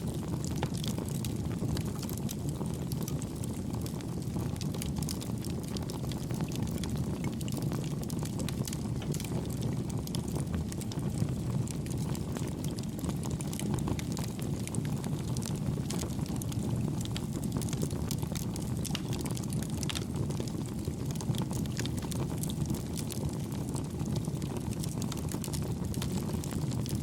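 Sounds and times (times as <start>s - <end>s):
burning wood crackling: 0.0s - 27.0s
campfire flame rumble: 0.0s - 27.0s.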